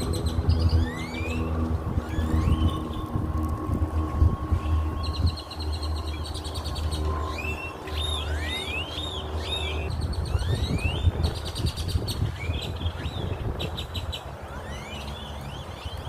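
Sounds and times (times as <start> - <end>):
low rumble: 0.0 - 14.1
small birds calling: 0.0 - 16.0.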